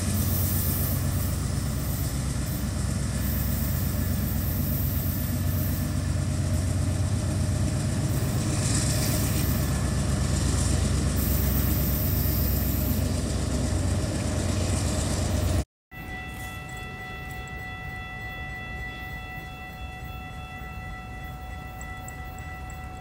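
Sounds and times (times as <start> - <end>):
diesel locomotive engine rumbling: 0.0 - 23.0.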